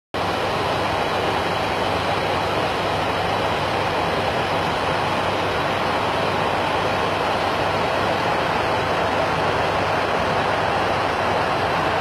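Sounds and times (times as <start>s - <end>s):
cockpit airflow and engine rush: 0.2s - 12.0s.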